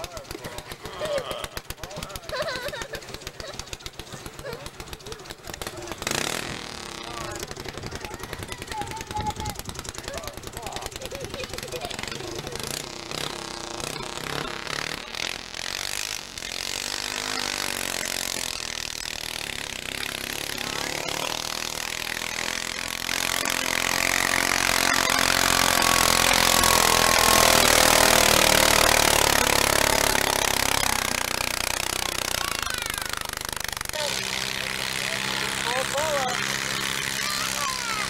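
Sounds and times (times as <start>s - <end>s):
small tractor engine under load: 0.0s - 38.0s.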